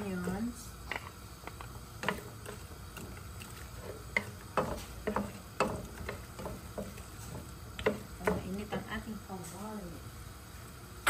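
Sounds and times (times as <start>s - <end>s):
wooden spatula scraping pan: 0.2s - 9.6s.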